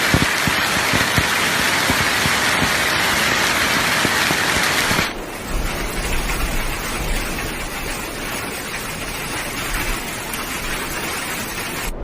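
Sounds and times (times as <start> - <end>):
hailstones pelting hard surfaces: 0.0 - 12.0
low storm rumbling: 0.0 - 12.0.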